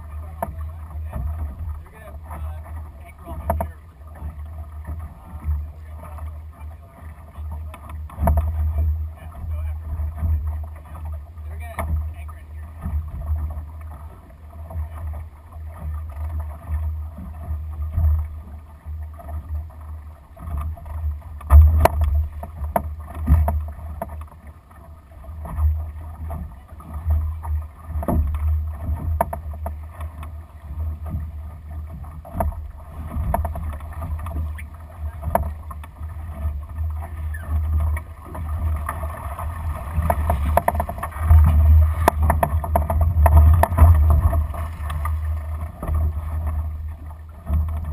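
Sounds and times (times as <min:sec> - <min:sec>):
water rushing along hull: 0:00.0 - 0:47.9.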